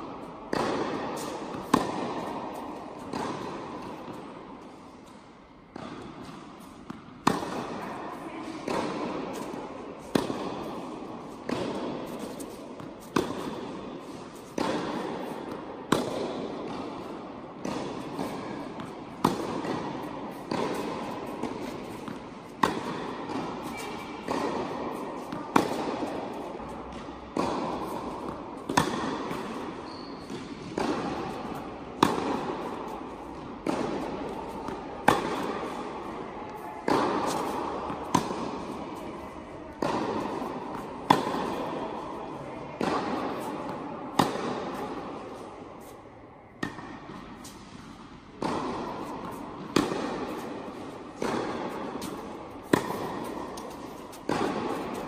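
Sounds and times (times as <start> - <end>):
tennis ball bouncing: 0.0 - 55.0
tennis racket strikes: 0.1 - 46.0, 46.6 - 55.0.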